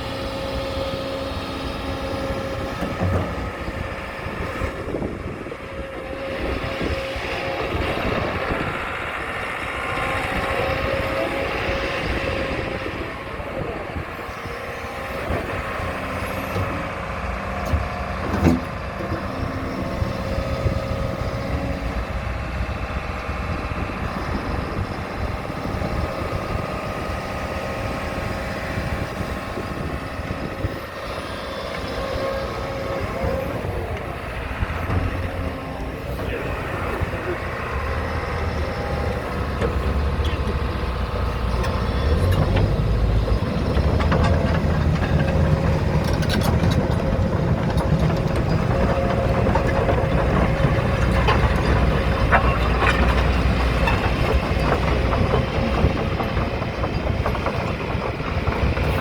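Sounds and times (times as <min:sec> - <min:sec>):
excavator diesel engine running: 0:00.0 - 0:59.0
hydraulic whine: 0:00.0 - 0:59.0.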